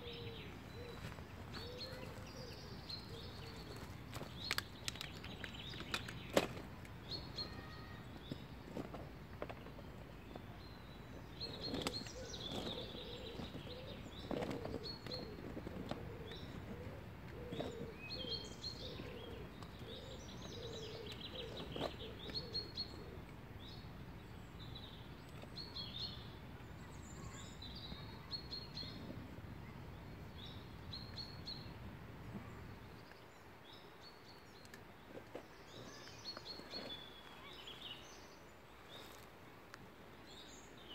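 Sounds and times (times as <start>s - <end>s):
birds chirping and trilling: 0.0s - 39.2s
low background noise: 0.0s - 40.9s.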